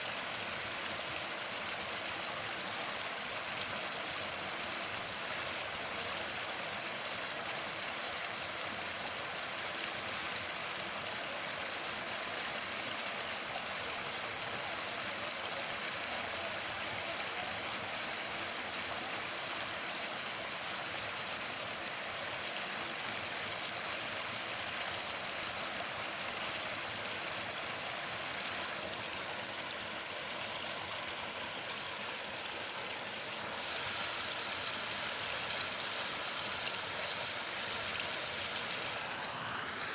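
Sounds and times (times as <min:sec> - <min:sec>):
steady hiss of water: 0:00.0 - 0:39.9.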